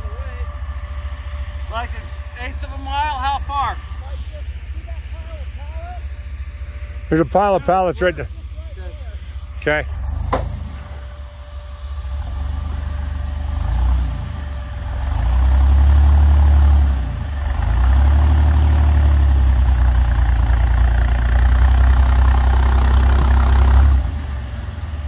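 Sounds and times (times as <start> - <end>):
snowcat engine revving under load: 0.0 - 25.0.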